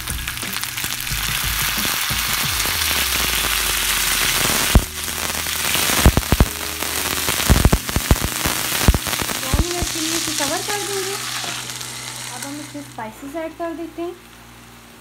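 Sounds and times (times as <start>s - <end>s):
chicken sizzling in hot oil: 0.0s - 13.6s.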